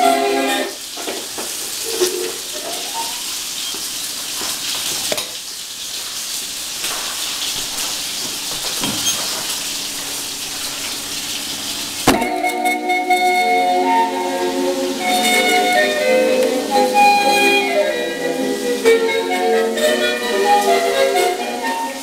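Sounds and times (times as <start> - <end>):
vinyl crackle and hiss: 0.0 - 22.0.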